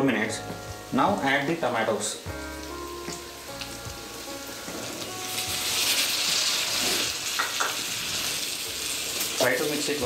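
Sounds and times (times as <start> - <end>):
vegetables frying in oil: 0.1 - 10.0.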